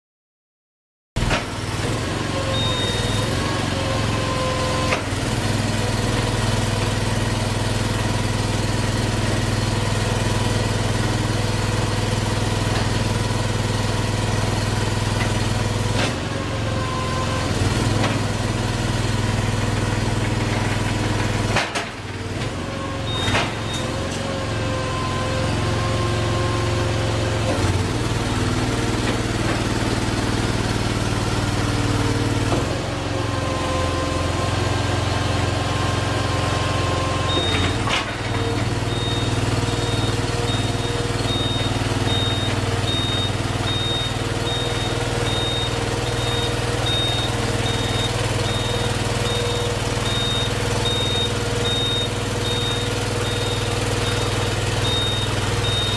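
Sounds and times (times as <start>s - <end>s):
machine engine hum with whining: 1.2s - 55.9s.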